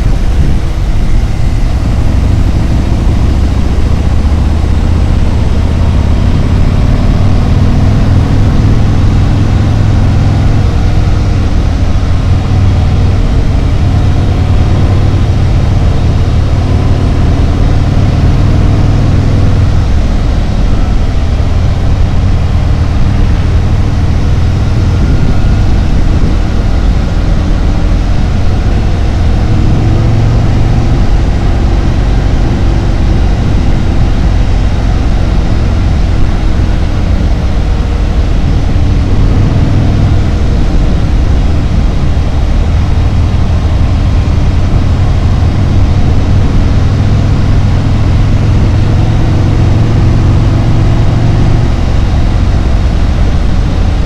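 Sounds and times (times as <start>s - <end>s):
motorcycle engine rumble: 0.0s - 54.0s
road noise rush: 0.0s - 54.0s.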